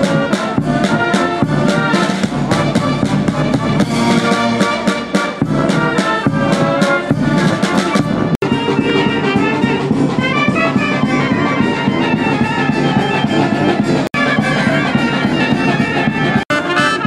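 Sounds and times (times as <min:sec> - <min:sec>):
military brass band playing: 0:00.0 - 0:17.0
steady drum beat: 0:00.0 - 0:17.0.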